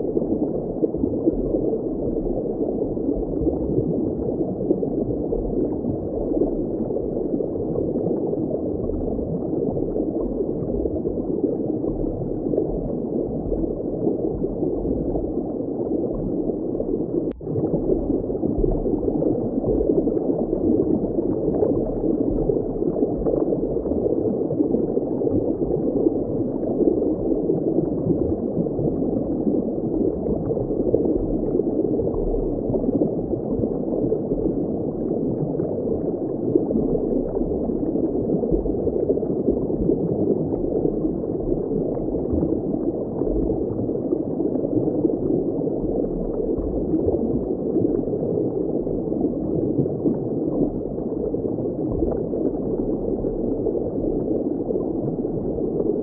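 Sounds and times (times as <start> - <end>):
muffled underwater water rush: 0.0 - 56.0.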